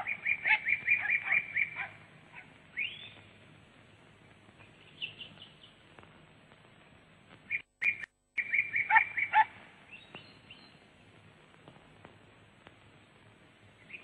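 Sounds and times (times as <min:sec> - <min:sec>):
small birds chirping: 0:00.0 - 0:06.1, 0:07.4 - 0:11.8, 0:12.6 - 0:14.0.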